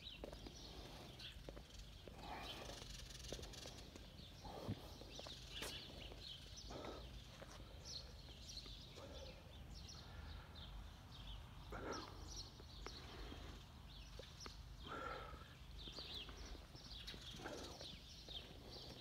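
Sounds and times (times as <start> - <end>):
footsteps on paving: 0.0 - 8.8, 12.6 - 19.0
small birds chirping: 0.0 - 19.0.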